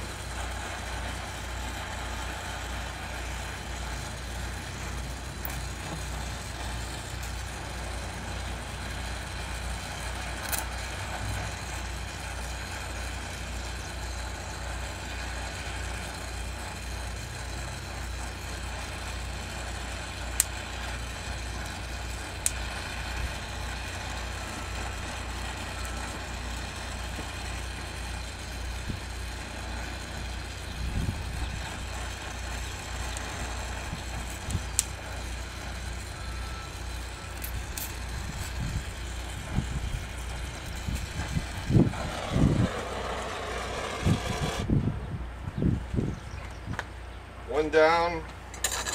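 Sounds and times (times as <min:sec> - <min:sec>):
welding torch flame hissing: 0:00.0 - 0:44.8.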